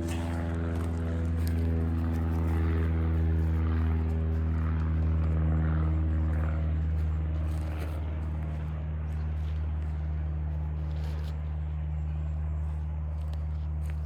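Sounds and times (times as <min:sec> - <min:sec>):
motor engine droning: 0:00.0 - 0:14.0.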